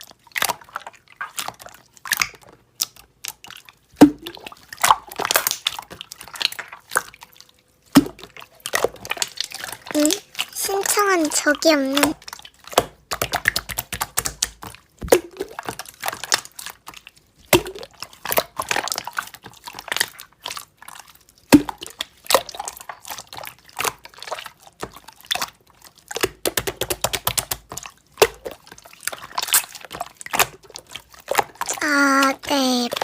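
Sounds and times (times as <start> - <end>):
slime squelching by hand: 0.0 - 33.0.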